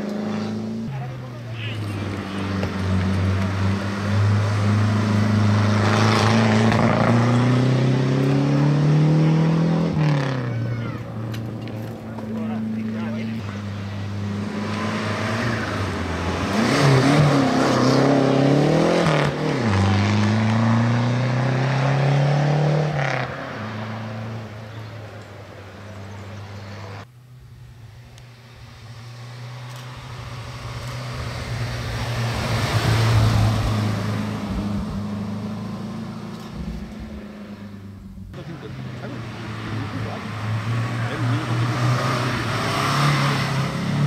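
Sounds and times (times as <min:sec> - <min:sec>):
rally cars passing at speed: 0:00.0 - 0:27.1, 0:27.9 - 0:44.0.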